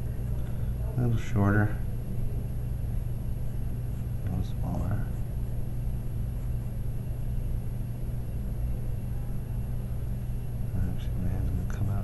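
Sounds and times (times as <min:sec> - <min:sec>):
faint high whine: 0:00.0 - 0:12.0
low room hum: 0:00.0 - 0:12.0.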